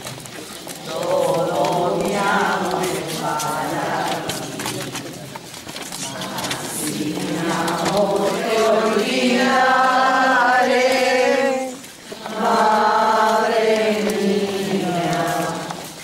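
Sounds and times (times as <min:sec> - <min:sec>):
voices singing a hymn: 0:00.7 - 0:05.2, 0:05.9 - 0:16.0.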